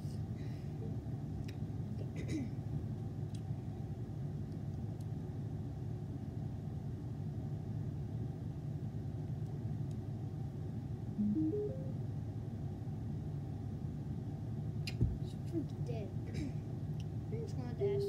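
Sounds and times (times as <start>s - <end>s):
window air conditioner humming: 0.0s - 18.0s.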